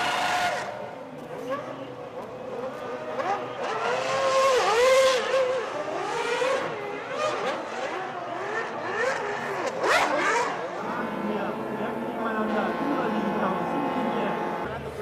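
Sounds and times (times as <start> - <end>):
racing car engines revving: 0.0 - 15.0.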